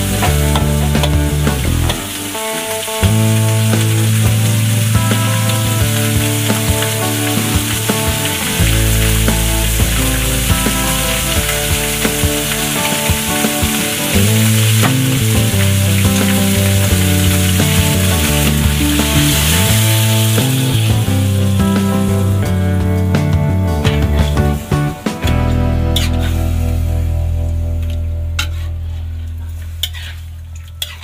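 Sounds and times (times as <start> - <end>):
food sizzling in a pan: 0.0 - 22.3, 25.8 - 28.8, 29.4 - 31.0
keyboard and bass music: 0.0 - 31.0.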